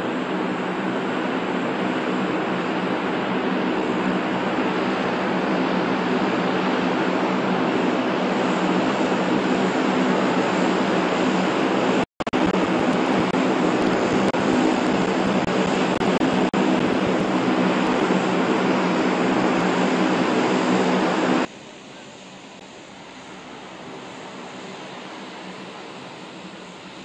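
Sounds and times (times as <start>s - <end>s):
aircraft engines running: 0.0s - 27.0s.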